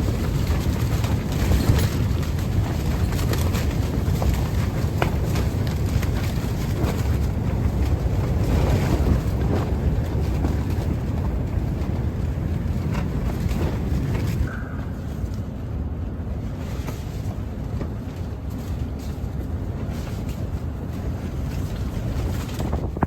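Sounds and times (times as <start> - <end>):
strong gusting wind on microphone: 0.0 - 23.0.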